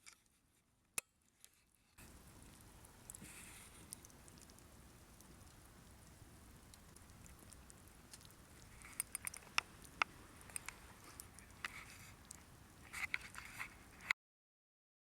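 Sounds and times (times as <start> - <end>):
campfire crackling and popping: 2.0 - 14.0.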